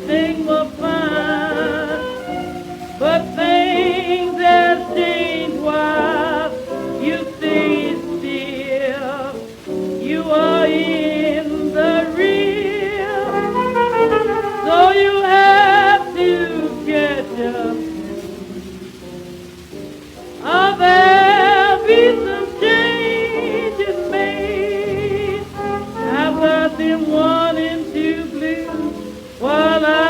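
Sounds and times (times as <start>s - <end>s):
old jazz band recording: 0.0s - 30.0s
vibrato lead melody: 0.0s - 30.0s.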